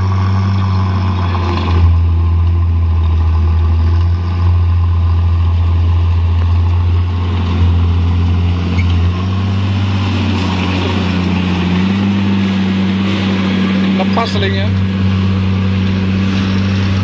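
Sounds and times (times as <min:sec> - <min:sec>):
heavy truck engine droning: 0:00.0 - 0:17.0.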